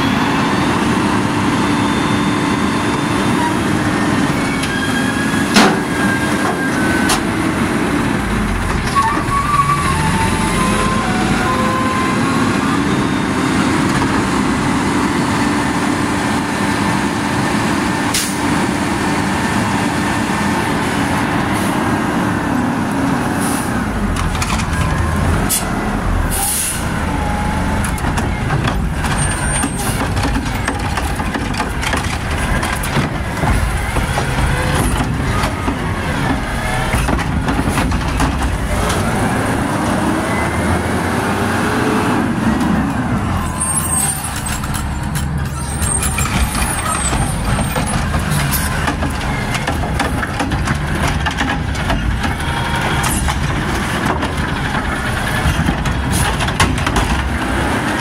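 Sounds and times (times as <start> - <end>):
garbage truck engine revving: 0.0 - 58.0.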